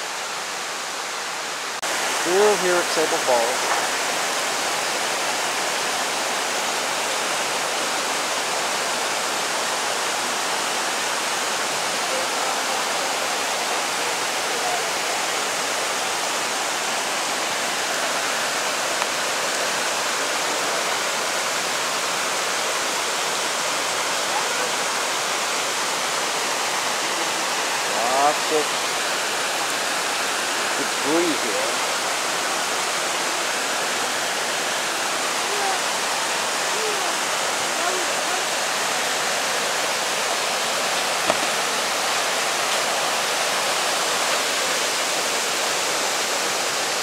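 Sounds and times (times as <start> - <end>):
creek water rushing over rocks: 0.0 - 47.0.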